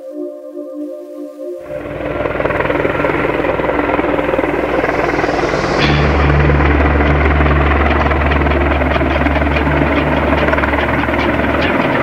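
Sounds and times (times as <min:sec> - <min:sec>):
helicopter running: 0:01.6 - 0:12.0.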